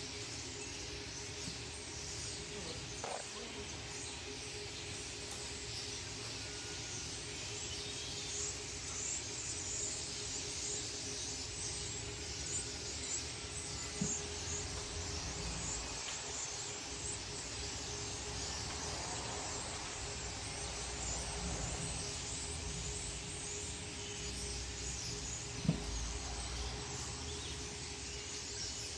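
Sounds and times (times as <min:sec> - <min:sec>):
swallows twittering: 0:00.0 - 0:28.9.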